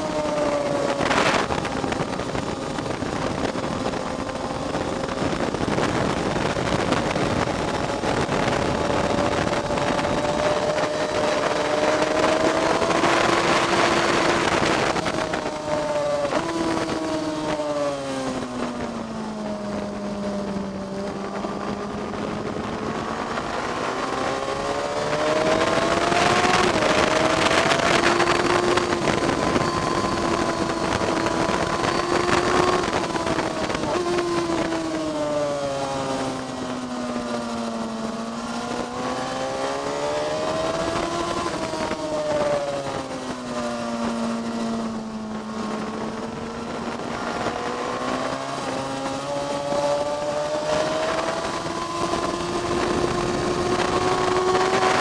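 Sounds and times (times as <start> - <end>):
motorcycle engine accelerating: 0.0 - 55.0
wind rush: 0.0 - 55.0.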